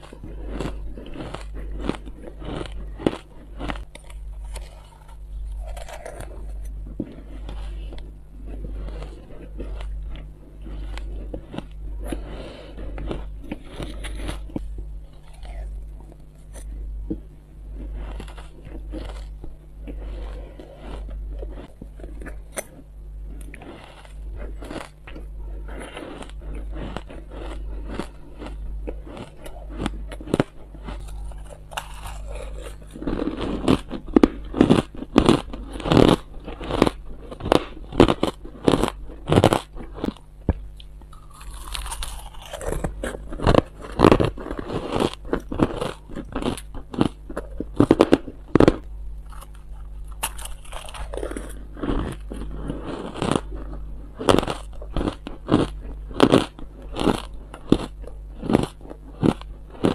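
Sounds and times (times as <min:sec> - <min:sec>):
chewing and crunching shaved ice: 0:00.0 - 0:59.9.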